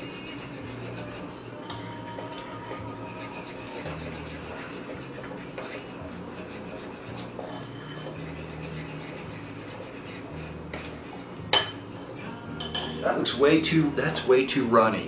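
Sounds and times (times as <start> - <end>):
utensil scraping bowl: 0.0 - 15.0.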